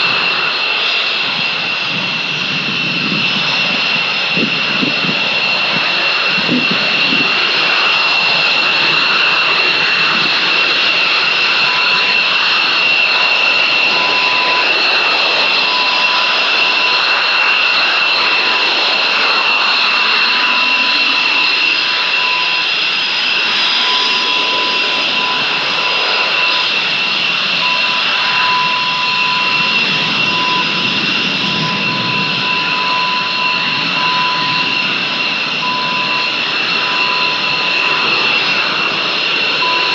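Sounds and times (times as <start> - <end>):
jet engines roaring with whine: 0.0 - 39.9
faint high whine: 0.1 - 39.9.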